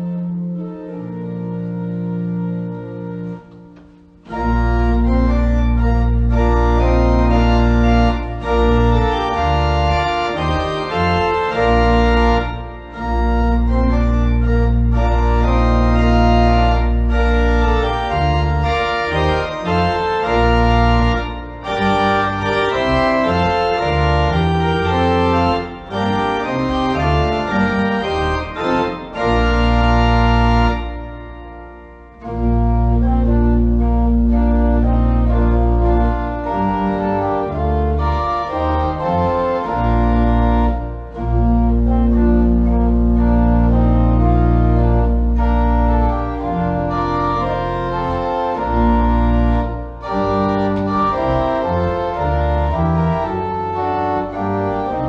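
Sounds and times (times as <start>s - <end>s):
church organ playing: 0.0s - 55.0s.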